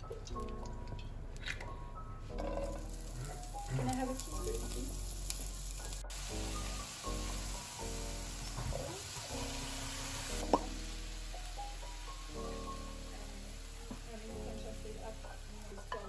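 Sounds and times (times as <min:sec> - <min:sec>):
background music held notes: 0:00.0 - 0:16.0
food sizzling in a pan: 0:02.3 - 0:16.0.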